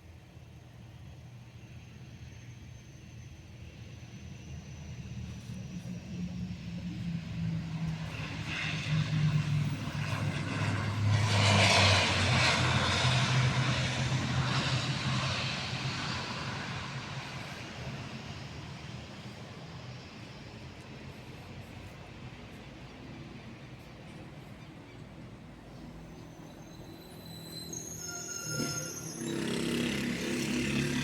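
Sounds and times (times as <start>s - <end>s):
turboprop airliner engines droning: 0.0s - 31.0s.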